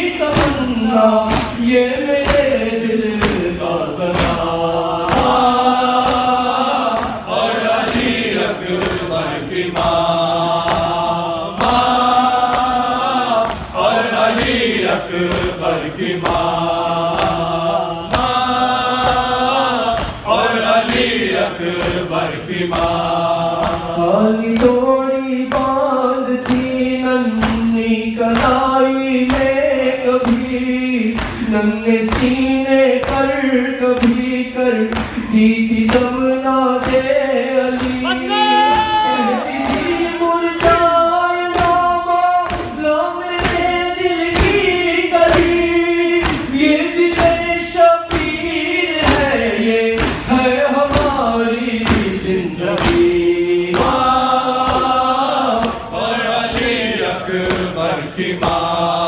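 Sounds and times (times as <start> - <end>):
men chanting along: 0.0 - 24.8, 25.5 - 59.0
man singing a lament: 0.0 - 59.0.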